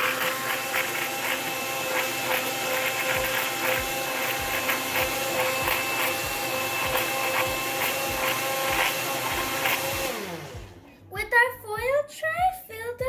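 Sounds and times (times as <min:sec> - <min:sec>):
blender running: 0:00.0 - 0:10.9.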